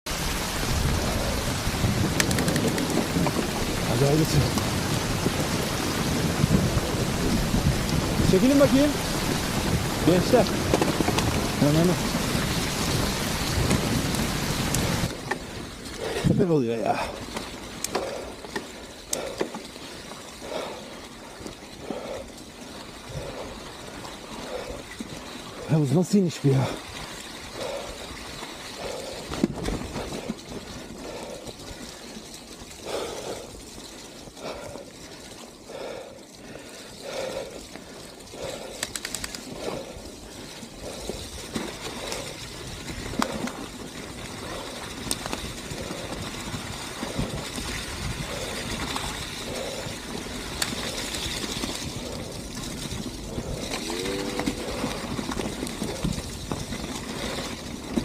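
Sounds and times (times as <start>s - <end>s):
tyre and wind noise: 0.1s - 58.0s
bike knocking and rattling: 0.4s - 58.0s.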